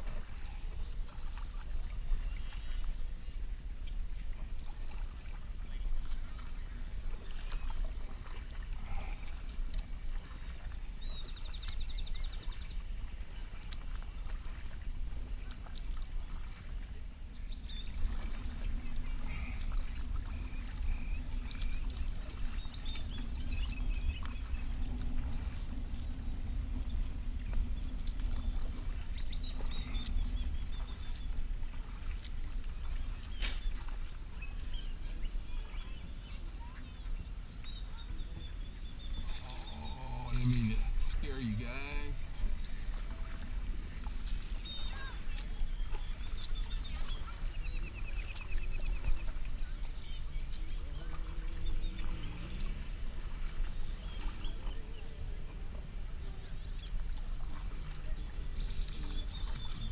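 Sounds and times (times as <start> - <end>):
paddle splashing water: 0.0 - 59.9
steady low rumble: 0.0 - 59.9.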